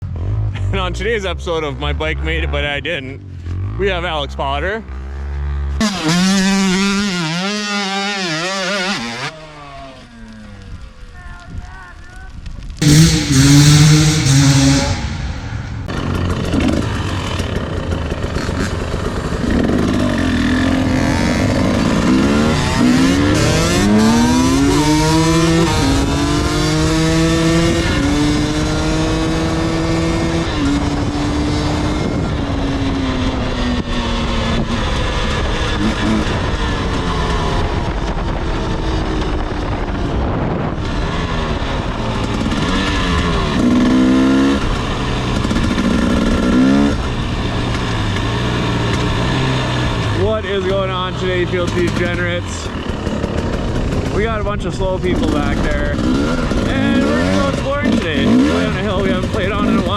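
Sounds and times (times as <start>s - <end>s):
dirt bike engine revving: 5.0s - 9.3s, 12.8s - 40.0s, 40.8s - 59.9s.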